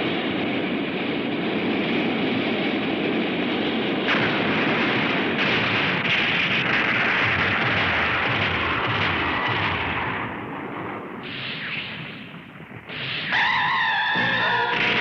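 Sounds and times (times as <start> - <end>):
rushing flame roar: 0.0 - 15.0.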